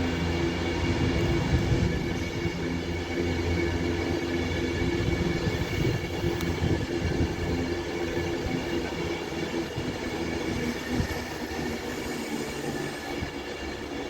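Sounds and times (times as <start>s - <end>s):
train engine droning hum: 0.0s - 14.0s.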